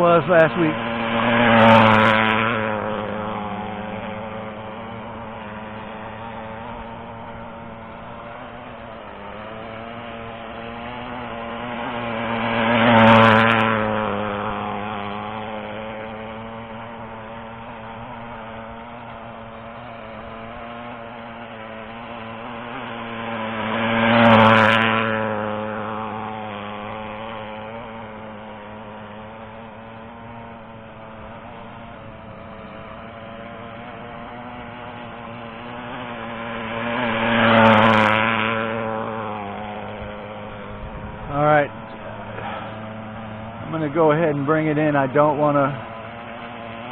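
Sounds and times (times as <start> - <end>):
model boat engine passing by: 0.0 - 46.9.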